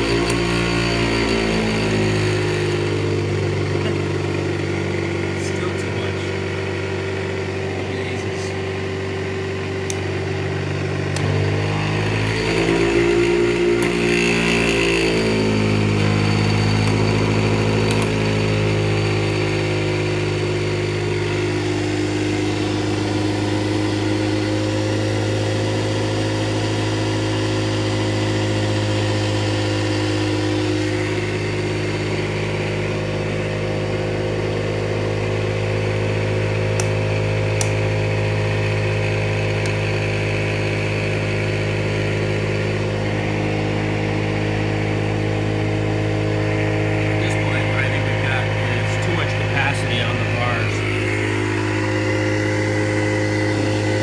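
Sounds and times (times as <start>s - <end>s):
electric motor humming: 0.0s - 54.0s.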